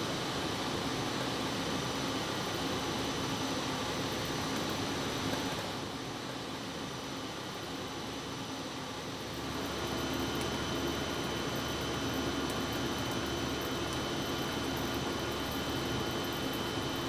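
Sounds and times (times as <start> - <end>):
film rollers humming and hissing: 0.0 - 17.0.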